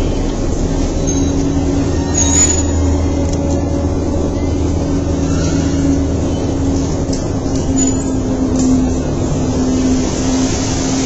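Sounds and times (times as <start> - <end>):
ferry engines droning: 0.0 - 11.0.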